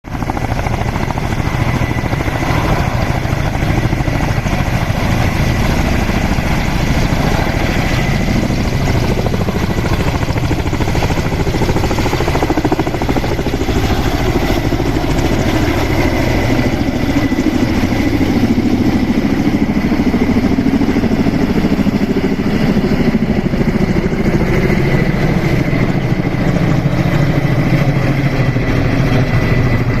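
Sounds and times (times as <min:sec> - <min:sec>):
helicopter high whine: 0:00.1 - 0:30.0
helicopter rotor beat: 0:00.1 - 0:30.0.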